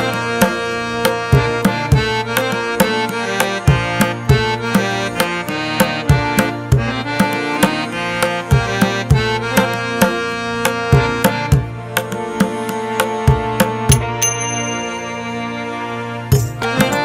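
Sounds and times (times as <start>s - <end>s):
background music with percussive beat: 0.0s - 17.0s.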